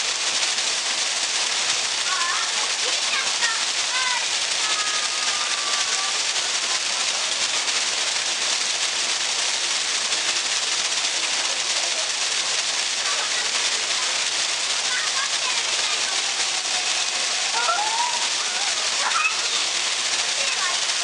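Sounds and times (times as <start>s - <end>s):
water falling into pool: 0.0s - 21.0s.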